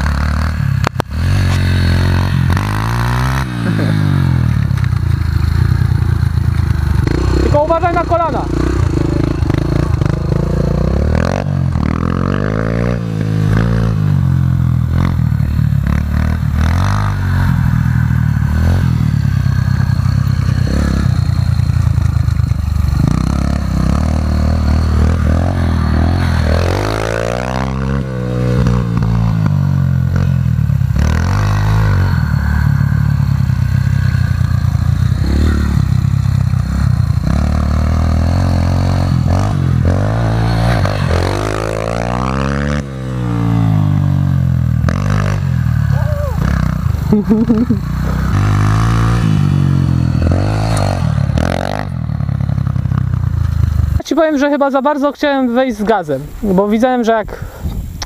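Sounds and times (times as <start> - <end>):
pit bike engines revving: 0.0 - 58.0.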